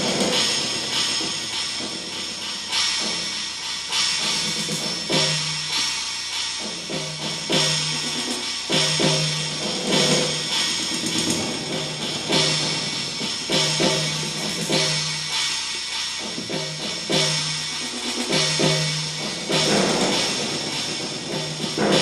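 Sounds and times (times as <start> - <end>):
dance music with drum kit: 0.0 - 22.0.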